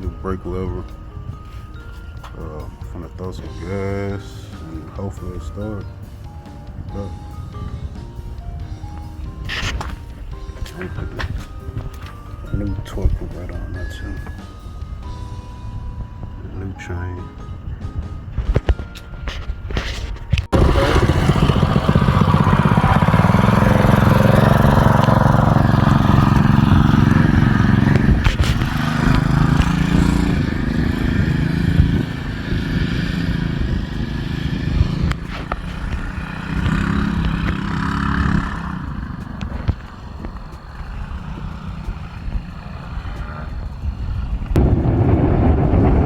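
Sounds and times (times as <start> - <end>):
minibike engine running: 0.0 - 46.0.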